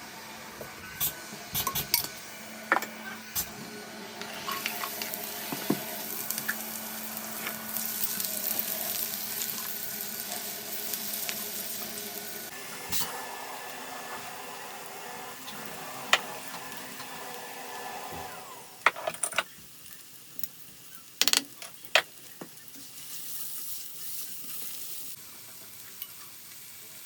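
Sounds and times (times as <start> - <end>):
food sizzling in pan: 1.0 - 27.0.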